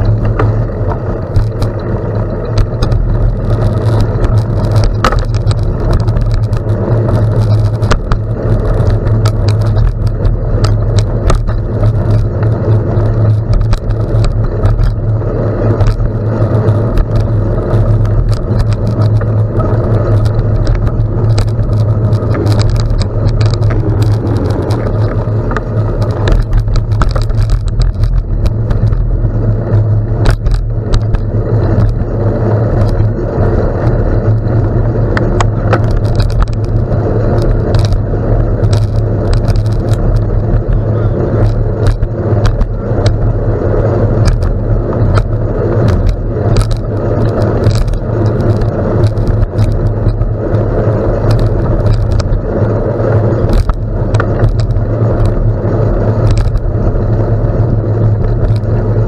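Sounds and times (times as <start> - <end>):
bike clicking and rattling: 0.0 - 59.0
bike tyres crunching on gravel: 0.0 - 59.0.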